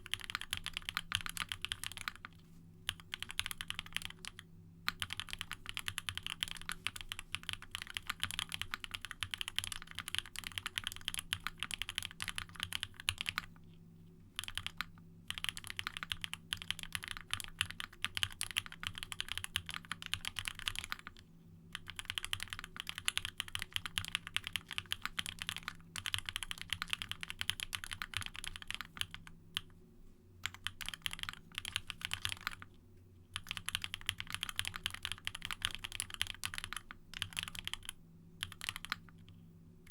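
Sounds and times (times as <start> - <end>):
fast mechanical keyboard typing: 0.0 - 13.5, 14.4 - 29.7, 30.4 - 32.7, 33.4 - 39.3.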